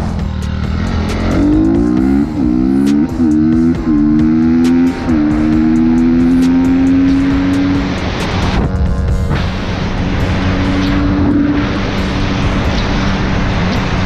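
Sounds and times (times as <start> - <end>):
dirt bike engine accelerating: 0.0 - 14.0.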